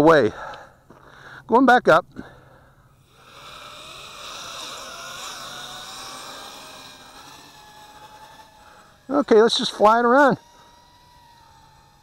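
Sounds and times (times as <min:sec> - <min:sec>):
quadcopter motors whining: 0:02.2 - 0:12.0.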